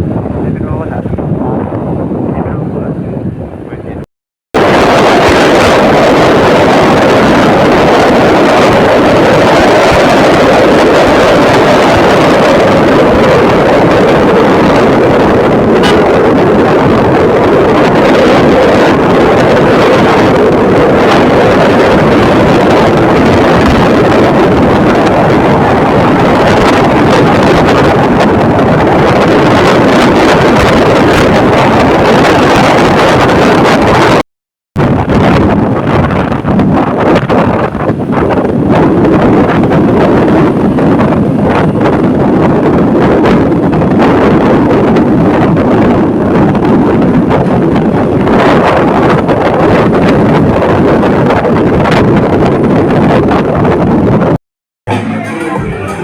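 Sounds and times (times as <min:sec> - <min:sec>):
wind buffeting microphone: 0:00.0 - 0:34.2, 0:34.8 - 0:54.4.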